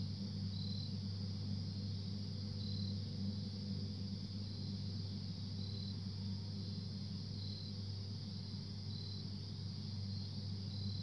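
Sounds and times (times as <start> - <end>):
crickets chirping: 0.0 - 11.0
low humming noise: 0.0 - 11.0.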